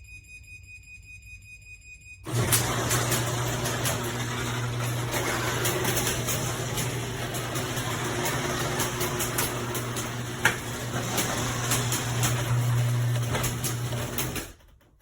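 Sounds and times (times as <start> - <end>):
garage door opener motor humming: 2.3 - 15.0.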